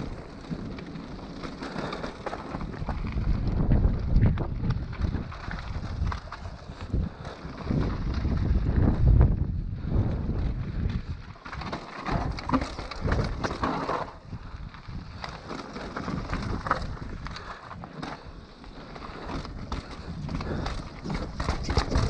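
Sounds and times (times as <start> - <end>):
bike clattering over bumps: 0.0 - 9.4, 10.2 - 22.0
bike tyres on trail: 0.0 - 22.0
wind buffeting microphone: 0.0 - 22.0.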